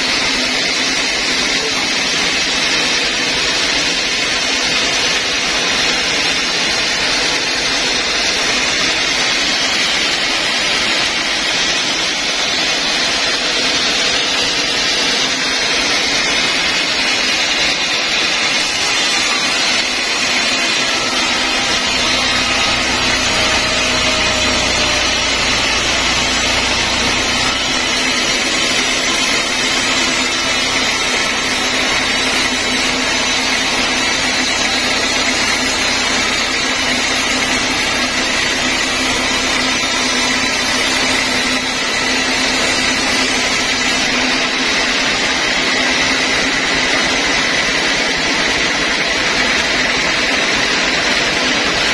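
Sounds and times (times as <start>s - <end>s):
saw blade cutting log: 0.0s - 47.8s
sawmill motor running: 0.0s - 51.9s.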